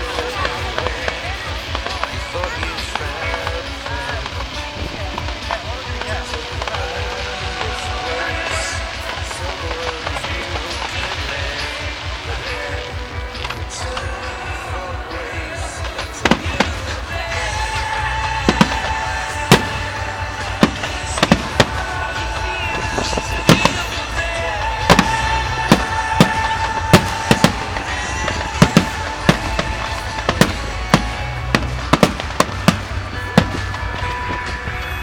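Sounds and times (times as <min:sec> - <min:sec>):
fireworks bangs: 0:00.0 - 0:35.0
music over loudspeakers: 0:00.0 - 0:35.0.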